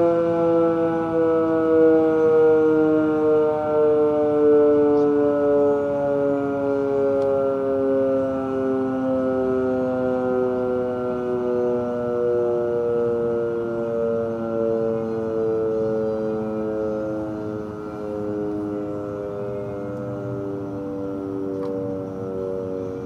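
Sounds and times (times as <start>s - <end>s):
warning siren falling tone: 0.0s - 23.0s.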